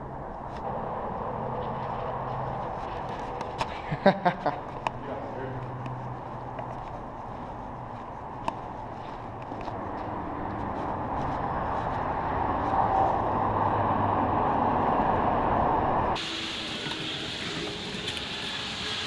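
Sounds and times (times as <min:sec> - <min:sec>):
steady rumbling noise: 0:00.0 - 0:16.2.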